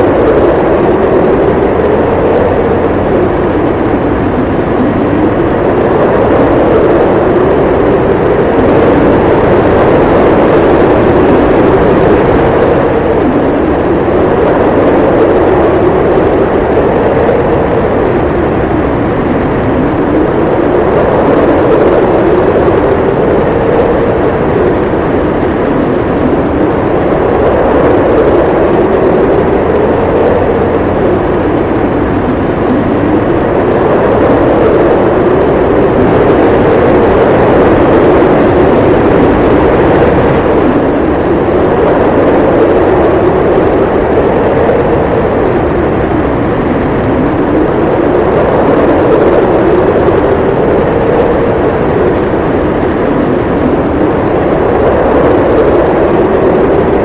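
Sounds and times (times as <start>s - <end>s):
howling snowstorm wind: 0.0s - 57.0s.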